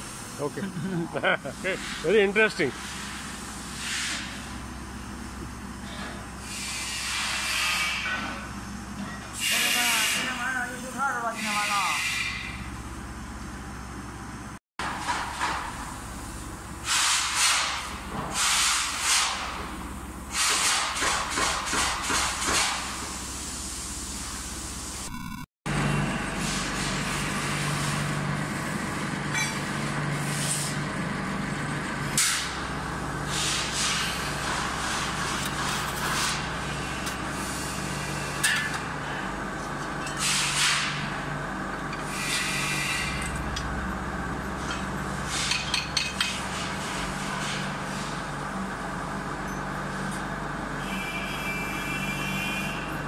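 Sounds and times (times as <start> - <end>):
workshop machinery hum: 0.0 - 53.0.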